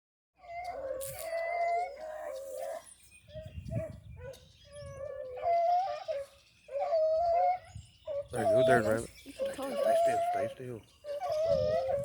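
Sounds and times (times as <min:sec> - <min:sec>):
hounds baying: 0:00.4 - 0:12.0.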